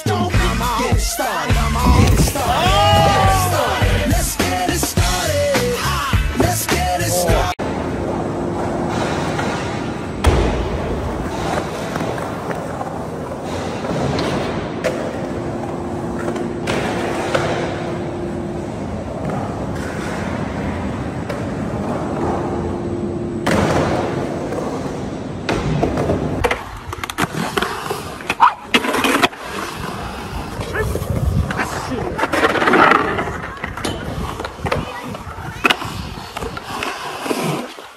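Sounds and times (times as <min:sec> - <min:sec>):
skateboard wheels rolling on concrete: 0:00.0 - 0:37.9.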